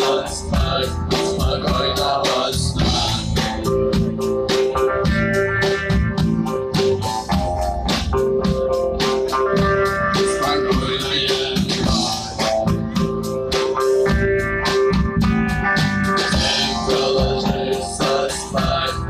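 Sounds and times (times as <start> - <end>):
guitar melodic line: 0.0 - 19.0
steady drum beat: 0.0 - 19.0.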